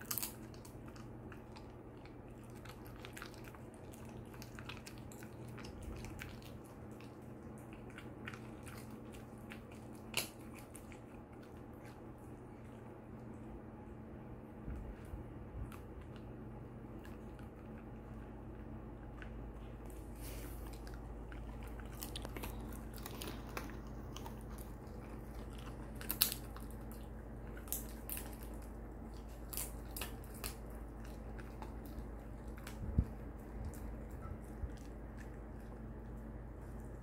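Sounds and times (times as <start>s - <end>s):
dog chewing crunchy treat: 0.0s - 13.6s, 14.6s - 37.0s.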